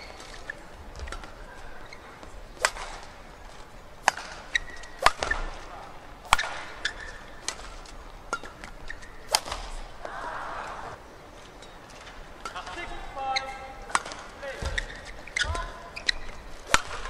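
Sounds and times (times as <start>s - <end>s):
rackets striking shuttlecock: 0.0s - 10.8s, 11.5s - 17.0s
shoes squeaking on court: 0.0s - 17.0s.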